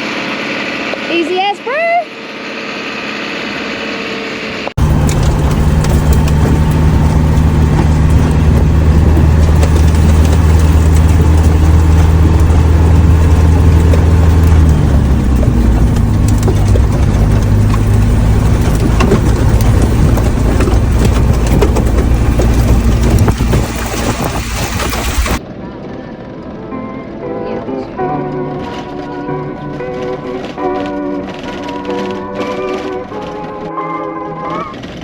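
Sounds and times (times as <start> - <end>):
road and tyre noise: 0.0 - 35.0
truck diesel engine drone: 0.0 - 35.0.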